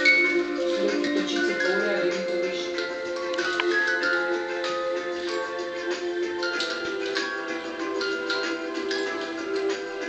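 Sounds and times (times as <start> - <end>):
music with sustained tones: 0.0 - 10.0.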